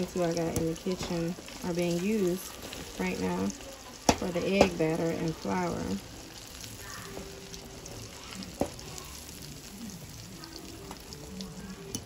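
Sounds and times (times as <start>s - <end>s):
chicken deep-frying sizzle: 0.0s - 12.0s.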